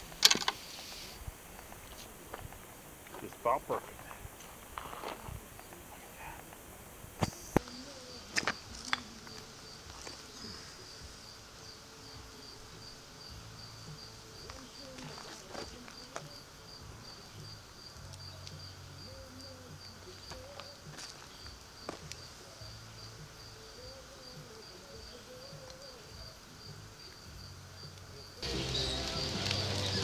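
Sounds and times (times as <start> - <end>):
insects chirping: 0.0 - 30.0.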